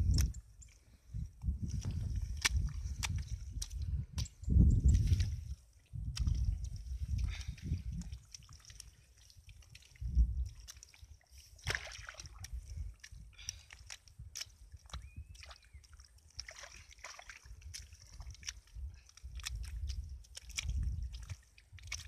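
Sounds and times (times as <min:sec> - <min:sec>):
hands scraping and squelching mud: 0:00.0 - 0:22.0.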